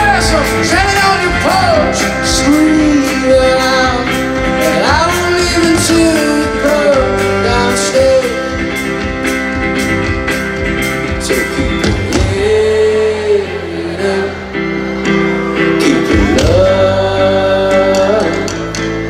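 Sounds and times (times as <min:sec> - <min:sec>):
drums: 0:00.0 - 0:19.0.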